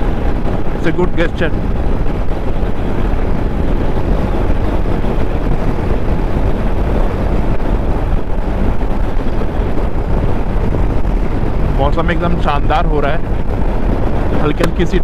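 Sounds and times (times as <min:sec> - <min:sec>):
motorcycle engine and road rumble: 0:00.0 - 0:15.0
wind rushing over microphone: 0:00.0 - 0:15.0.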